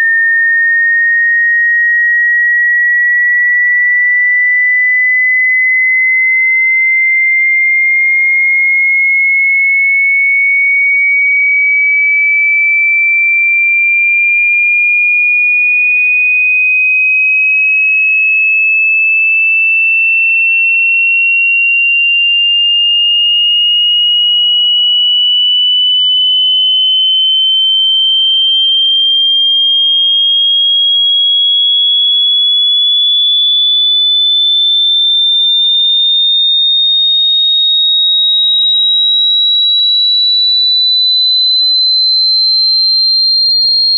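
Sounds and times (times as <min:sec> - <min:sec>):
sine wave tone rising in pitch: 0:00.0 - 0:43.9.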